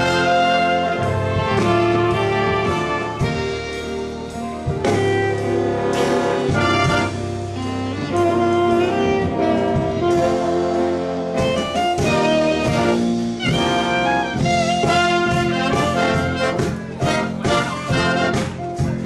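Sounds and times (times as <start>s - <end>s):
orchestra playing held chords: 0.0s - 19.0s.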